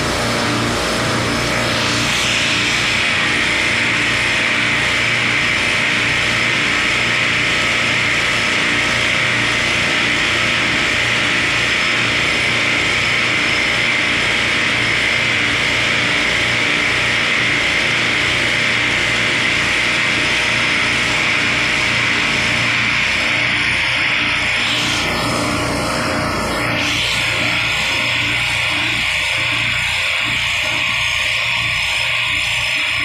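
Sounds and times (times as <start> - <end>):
machinery rushing noise: 0.0 - 33.0.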